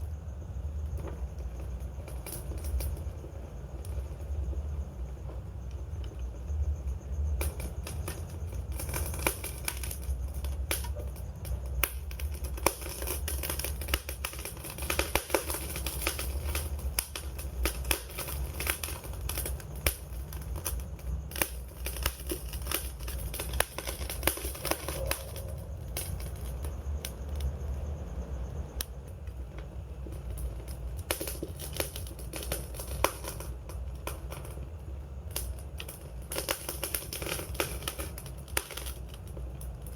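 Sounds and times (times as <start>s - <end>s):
campfire crackling and popping: 0.0s - 27.8s, 28.6s - 39.9s
low rumble of flame: 0.0s - 39.9s.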